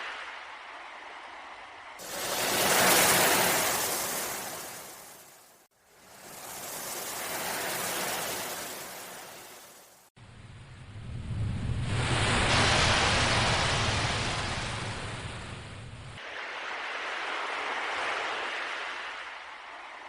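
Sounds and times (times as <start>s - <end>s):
ocean waves breaking: 2.0s - 10.0s, 11.4s - 20.0s.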